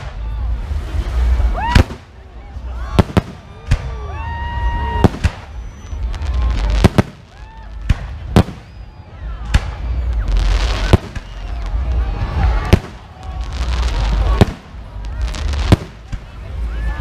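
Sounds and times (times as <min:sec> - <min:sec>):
fireworks bangs: 0:00.0 - 0:17.0
low rumble: 0:00.0 - 0:17.0.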